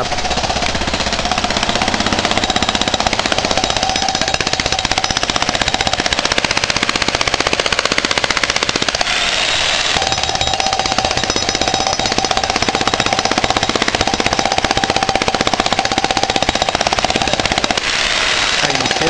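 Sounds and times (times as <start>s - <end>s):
jackhammer breaking concrete: 0.0s - 19.0s.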